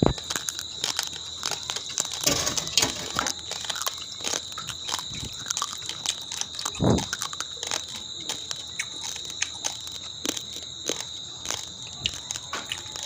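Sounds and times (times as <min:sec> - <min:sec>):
rice grains crunched between teeth: 0:00.0 - 0:13.0.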